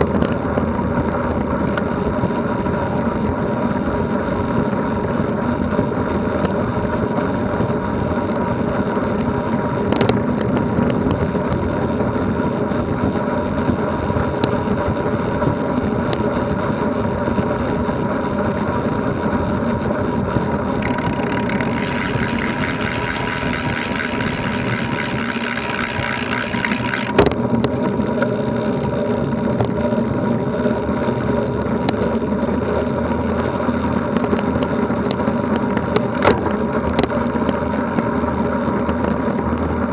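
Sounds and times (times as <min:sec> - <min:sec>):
wind rush: 0:00.0 - 0:35.0
bike tyre noise: 0:00.0 - 0:39.9.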